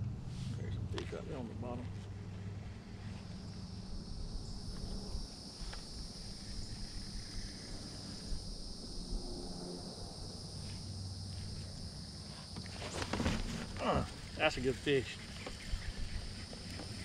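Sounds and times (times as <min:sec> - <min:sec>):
insects trilling: 0:02.5 - 0:17.0.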